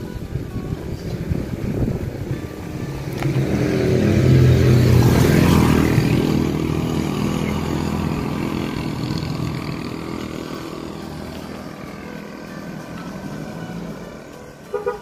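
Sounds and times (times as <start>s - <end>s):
engine running low pitch: 0.0s - 15.0s.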